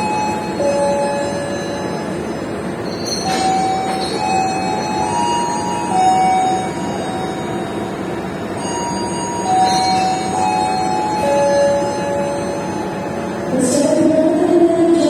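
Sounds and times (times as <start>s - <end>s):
high held tones: 0.0s - 15.0s
train rumbling: 0.0s - 15.0s.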